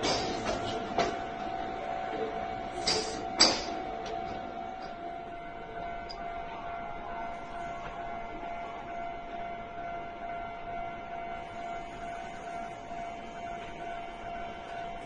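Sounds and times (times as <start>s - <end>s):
level-crossing warning alarm ringing: 0.0s - 15.0s.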